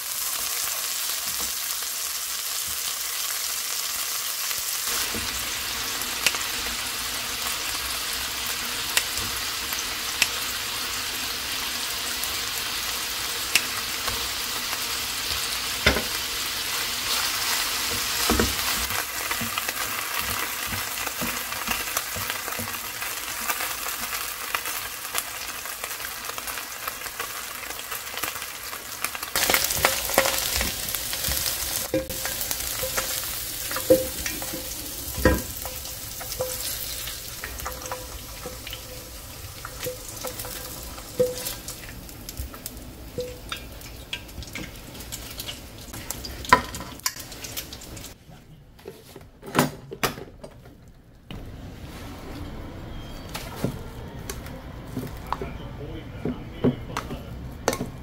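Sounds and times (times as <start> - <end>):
meat sizzling in a frying pan: 0.0 - 48.2.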